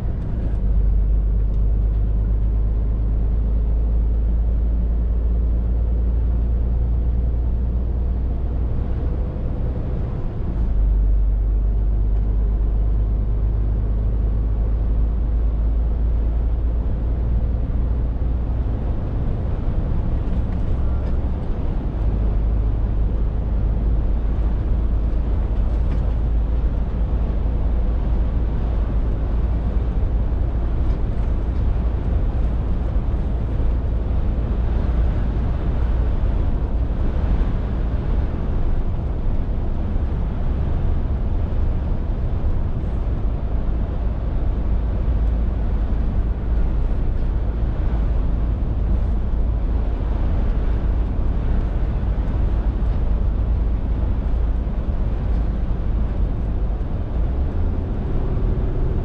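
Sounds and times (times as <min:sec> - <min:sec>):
diesel lorry engine running: 0:00.0 - 0:59.0
road noise: 0:00.0 - 0:59.0.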